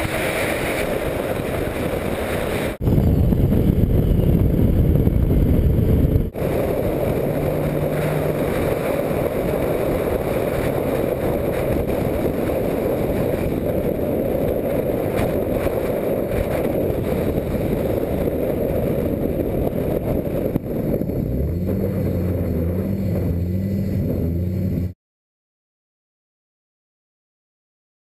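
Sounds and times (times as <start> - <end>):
car engine at speed: 0.0 - 25.0
wind on microphone: 0.0 - 25.0.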